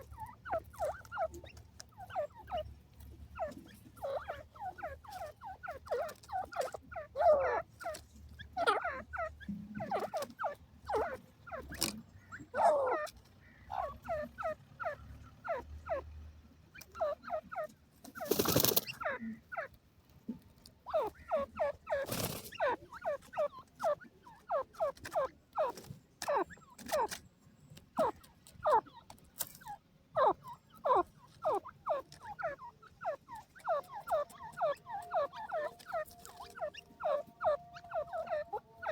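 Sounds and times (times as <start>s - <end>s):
bird calling in falling clucks: 0.0s - 19.8s, 20.4s - 38.9s.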